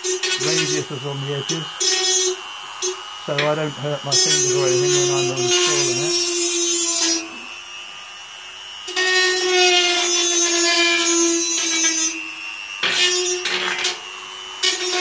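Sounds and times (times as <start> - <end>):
rotary tool grinding glass: 0.0 - 7.5, 8.8 - 15.0.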